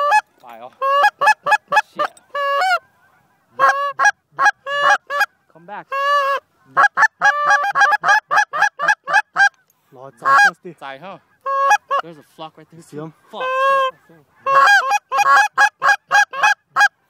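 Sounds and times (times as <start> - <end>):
goose call honks and clucks: 0.0 - 17.0.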